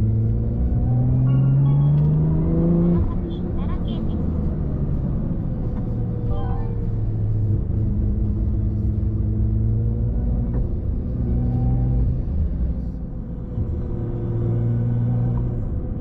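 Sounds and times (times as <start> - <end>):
car engine humming while driving: 0.0 - 16.0.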